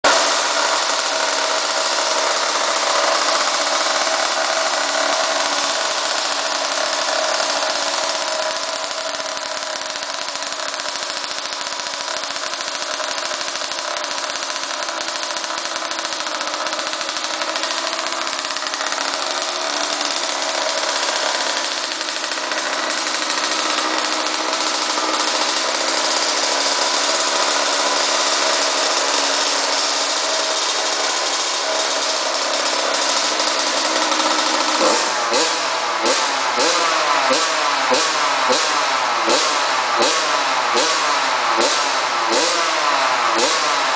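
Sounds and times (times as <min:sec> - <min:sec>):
mini motorbike engine running: 0:00.0 - 0:43.9.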